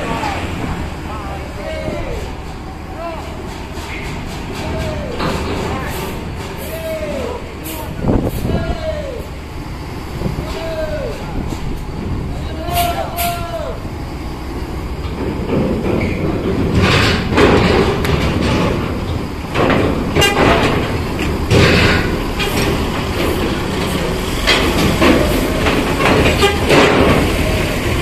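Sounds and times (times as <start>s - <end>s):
bus engine rumble: 0.0s - 28.0s
wheels clanking over metal joints: 0.0s - 28.0s.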